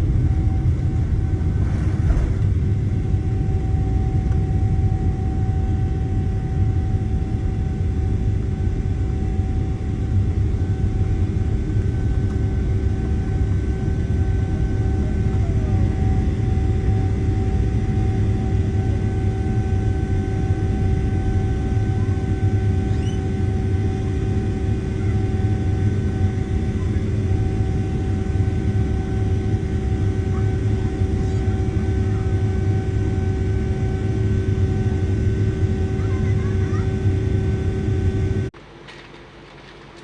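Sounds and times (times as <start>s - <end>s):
humming whine: 0.0s - 40.0s
low engine rumble: 0.0s - 40.0s.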